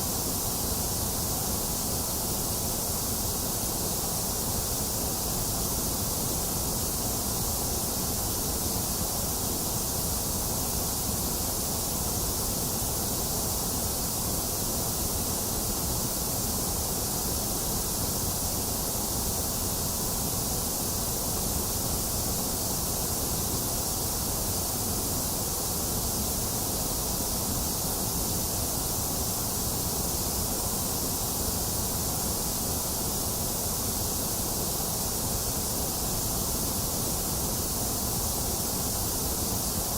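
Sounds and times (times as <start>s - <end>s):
synthetic white noise hiss: 0.0s - 39.9s.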